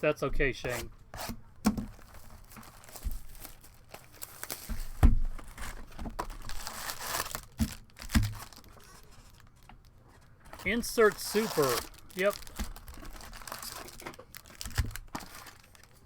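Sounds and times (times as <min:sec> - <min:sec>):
card wrappers crinkling and tearing: 0:01.9 - 0:16.0.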